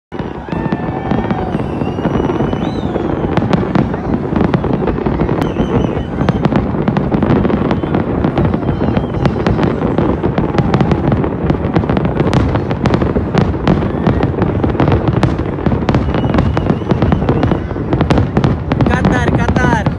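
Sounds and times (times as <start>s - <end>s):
fireworks bursting rumble: 0.1s - 19.9s
fireworks sharp cracks: 0.1s - 19.9s.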